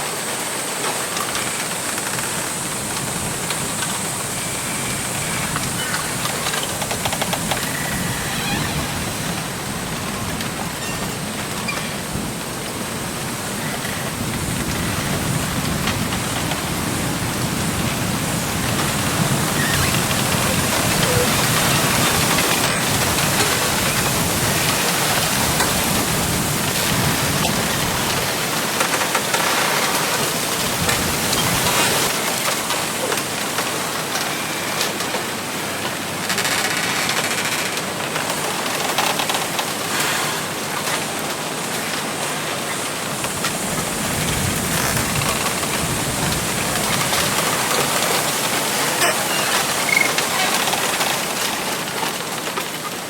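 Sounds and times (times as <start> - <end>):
wind rustling bamboo leaves: 0.0 - 53.0.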